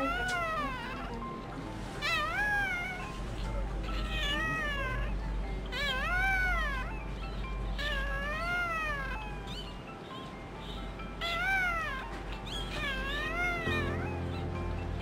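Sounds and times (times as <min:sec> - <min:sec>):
newborn puppy crying: 0:00.0 - 0:15.0.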